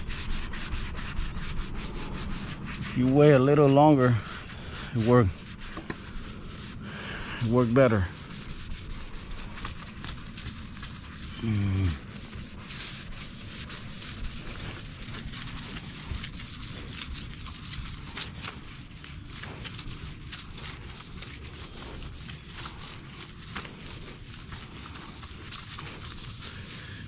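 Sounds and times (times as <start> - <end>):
scraper scraping metal panel: 0.0 - 27.0.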